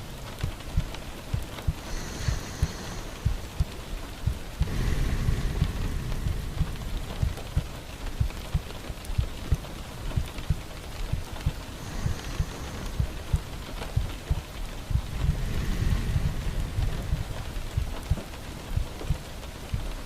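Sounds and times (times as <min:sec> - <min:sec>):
low rumbling noise: 0:00.0 - 0:20.0
steady rain: 0:00.0 - 0:20.0.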